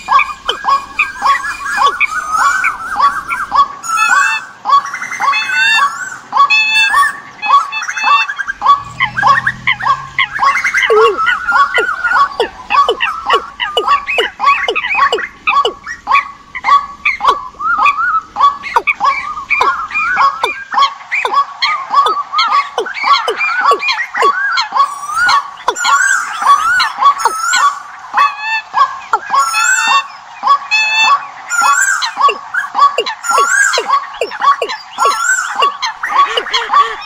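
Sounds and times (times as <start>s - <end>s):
birds calling rapidly: 0.0s - 37.0s
higher wavering bird calls: 0.0s - 37.0s.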